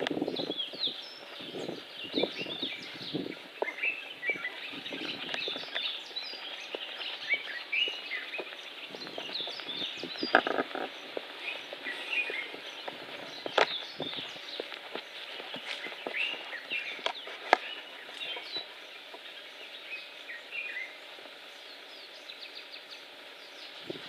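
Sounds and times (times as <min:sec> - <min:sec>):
soft footsteps: 0:00.0 - 0:19.8
birds chirping: 0:00.0 - 0:24.0.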